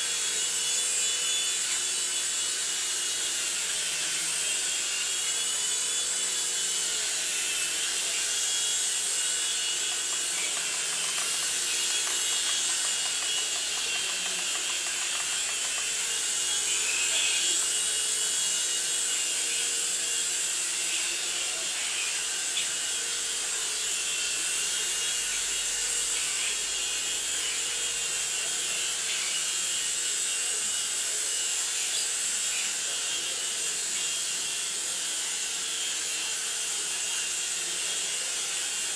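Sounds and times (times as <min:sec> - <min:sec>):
toy helicopter rotor whir: 0:00.0 - 0:38.9.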